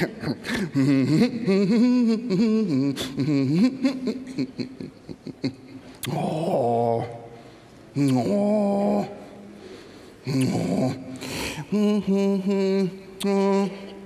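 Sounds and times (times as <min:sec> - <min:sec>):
man's wordless vocal noises: 0:00.0 - 0:14.0.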